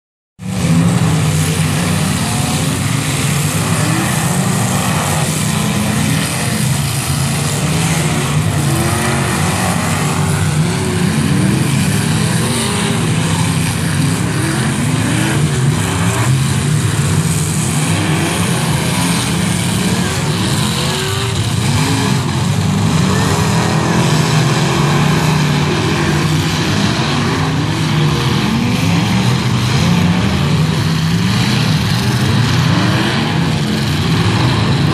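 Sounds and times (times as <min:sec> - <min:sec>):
car engines revving hard: 0:00.4 - 0:34.9.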